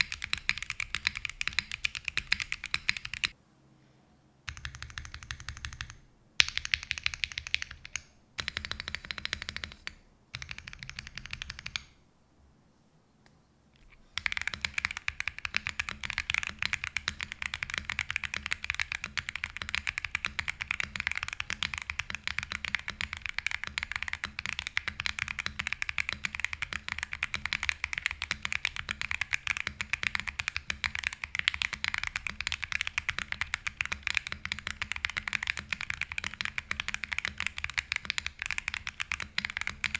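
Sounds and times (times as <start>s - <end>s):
mechanical keyboard typing: 0.0s - 3.4s, 4.5s - 12.0s, 14.2s - 39.9s.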